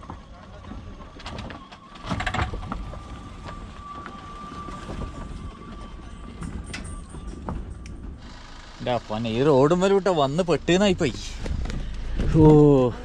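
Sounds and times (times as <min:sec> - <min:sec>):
faint high whine: 0:00.0 - 0:13.0
rattles and knocks: 0:00.0 - 0:13.0
vehicle engine rumble: 0:00.0 - 0:13.0.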